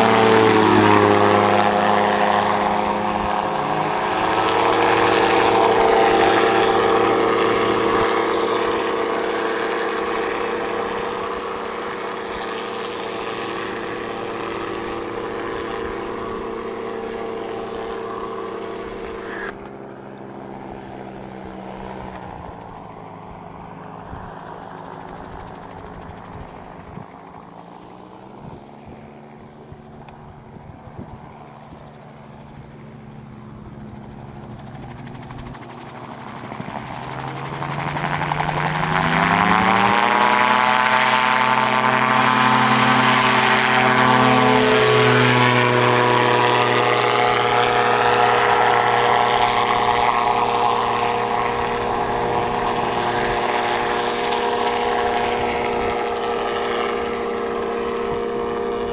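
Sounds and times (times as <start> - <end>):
gyroplane engine revving to drone: 0.0 - 58.9.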